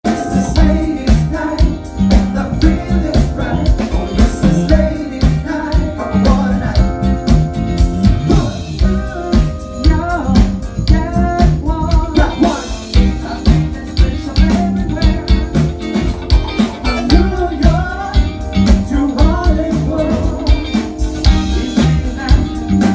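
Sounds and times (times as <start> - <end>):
guitar: 0.0 - 22.9
person singing: 0.1 - 7.4, 8.0 - 22.9
bass line: 0.1 - 22.9
steady drum beat: 0.1 - 22.9.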